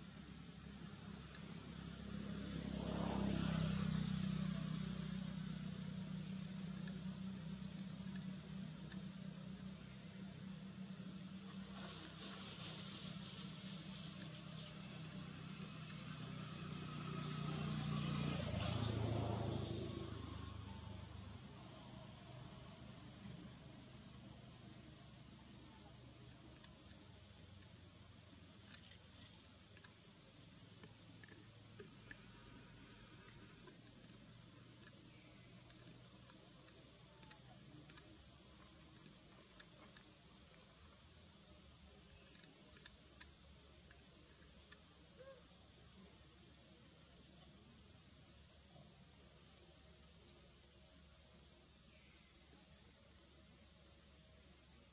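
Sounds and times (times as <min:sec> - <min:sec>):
insects droning: 0:00.0 - 0:54.9.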